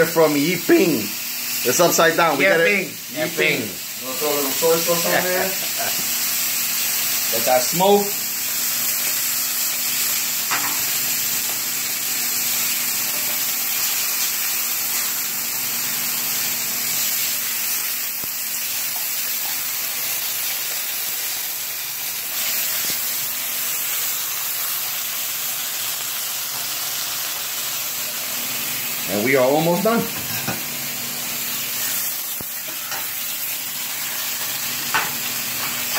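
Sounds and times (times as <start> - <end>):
steak sizzling in frying pan: 0.0 - 35.9.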